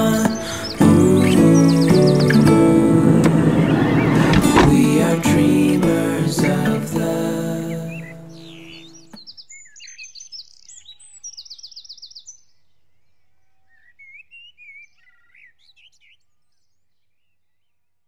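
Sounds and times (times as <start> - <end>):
birds chirping and trilling: 0.0 - 5.7, 7.5 - 17.8.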